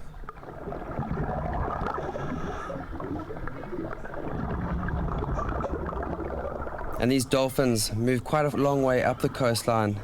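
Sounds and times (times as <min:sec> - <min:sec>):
rushing water with low rumble: 0:00.0 - 0:10.0.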